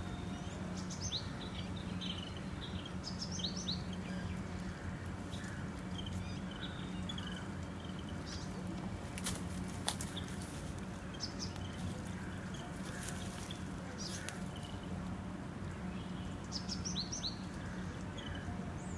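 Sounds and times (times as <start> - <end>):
birds chirping: 0.0 - 18.9
steady low hum: 0.0 - 18.9.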